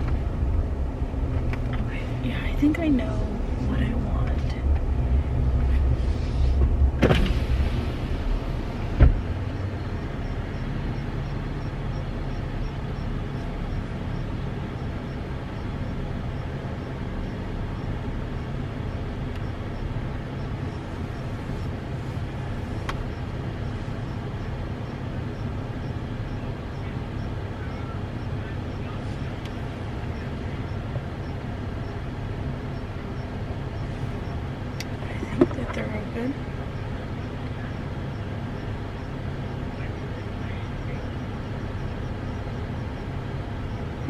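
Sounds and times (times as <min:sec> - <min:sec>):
air-conditioning fan hum: 0:00.0 - 0:44.0
truck engine idling: 0:00.0 - 0:44.0
faint ticking: 0:08.1 - 0:44.0.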